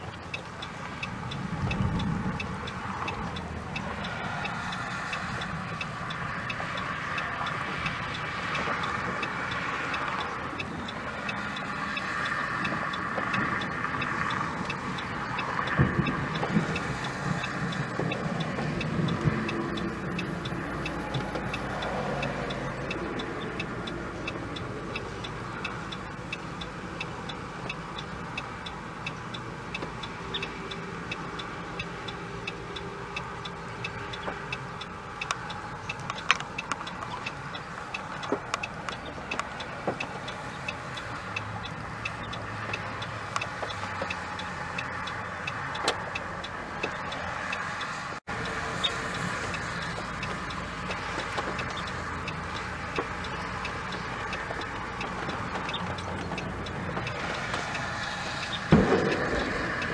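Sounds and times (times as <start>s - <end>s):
light ticks: 0.0s - 59.9s
wind rushing through grass and trees: 0.0s - 59.9s.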